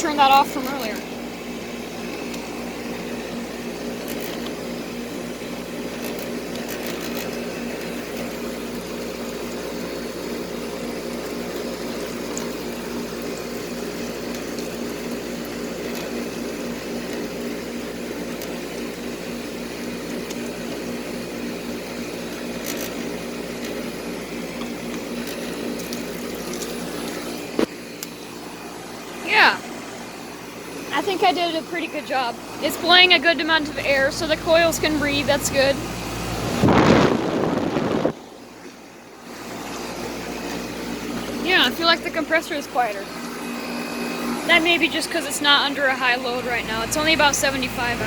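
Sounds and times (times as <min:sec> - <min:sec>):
compressor hum: 0:00.0 - 0:48.0
fan blowing air: 0:00.0 - 0:48.0.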